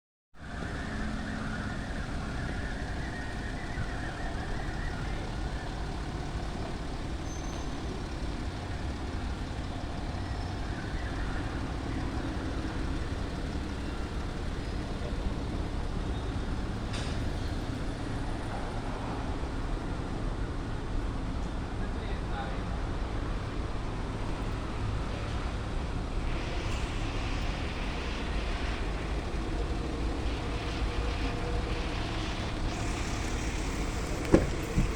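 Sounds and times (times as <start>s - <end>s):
diesel engine running: 0.5s - 19.7s, 22.6s - 34.9s.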